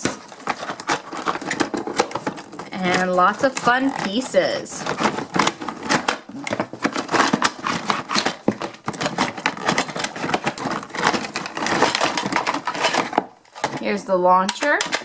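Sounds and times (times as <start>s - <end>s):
crinkling packaging: 0.0s - 13.9s
plastic toy pieces clacking: 0.0s - 13.9s, 14.5s - 15.0s.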